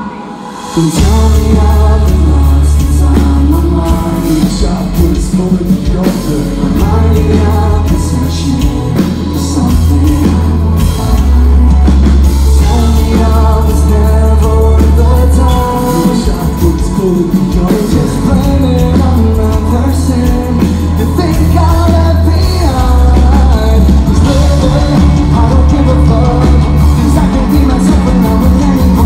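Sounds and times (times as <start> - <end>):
heavy metal band playing: 0.0 - 29.0
lead vocals singing: 0.0 - 29.0.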